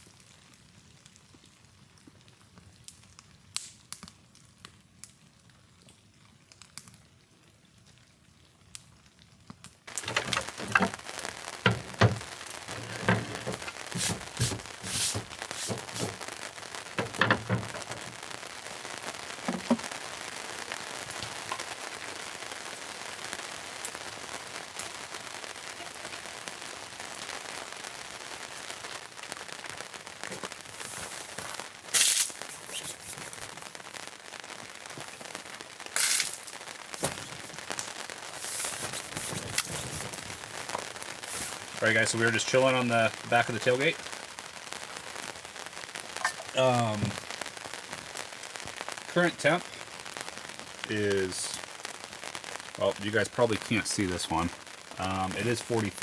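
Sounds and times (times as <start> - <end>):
rain drips: 0.0 - 56.0
rain falling: 0.0 - 56.0.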